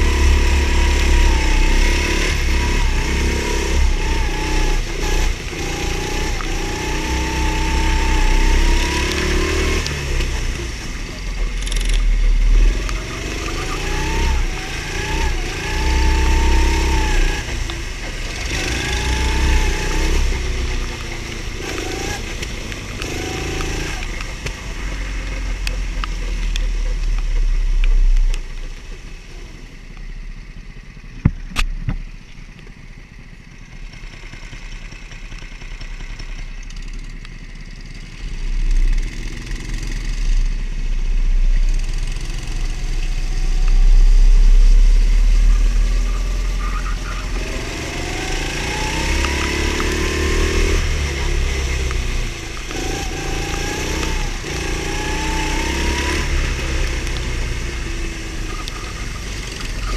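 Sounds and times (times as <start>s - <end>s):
go-kart engine: 0.0s - 59.9s.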